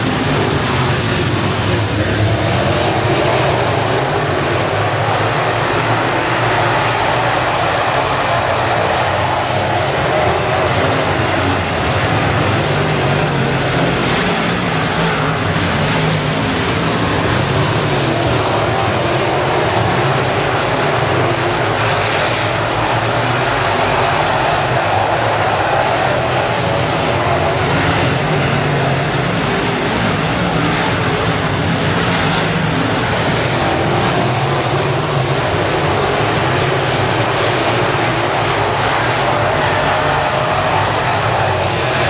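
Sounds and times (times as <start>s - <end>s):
race car engines blaring: 0.0s - 42.0s.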